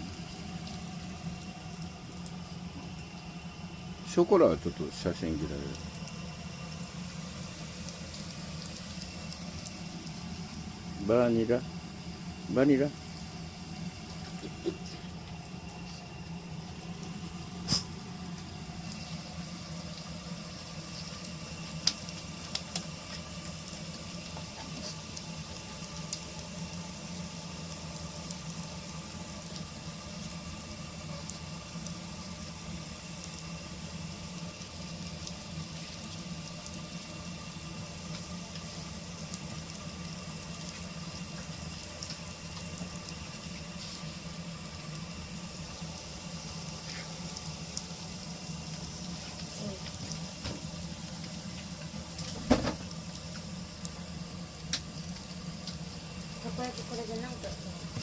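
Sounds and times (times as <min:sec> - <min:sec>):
batter sizzling in a pan: 0:00.0 - 0:58.0
low electrical hum: 0:00.0 - 0:58.0.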